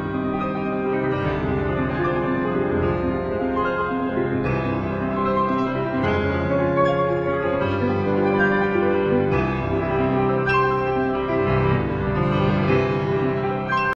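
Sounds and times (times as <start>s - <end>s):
piano background music: 0.0s - 13.9s.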